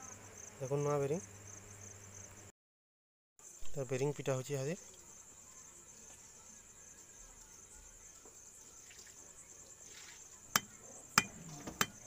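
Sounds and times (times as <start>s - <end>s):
crickets chirring: 0.0s - 2.5s, 3.4s - 12.0s.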